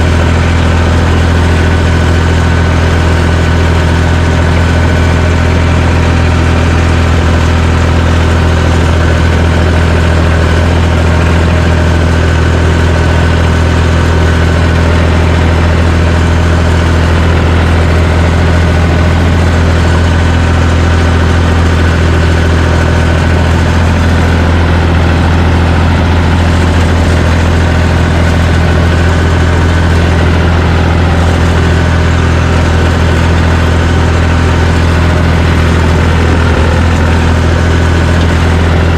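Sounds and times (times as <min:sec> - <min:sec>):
diesel engine droning steadily: 0:00.0 - 0:38.9.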